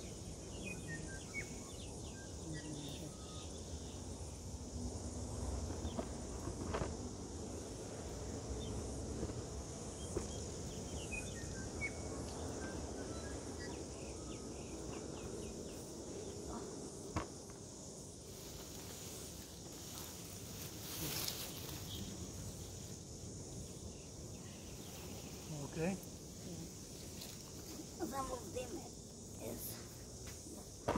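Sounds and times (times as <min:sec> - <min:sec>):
insect chirring: 0:00.0 - 0:30.9
leaves and branches rustling: 0:00.1 - 0:30.9.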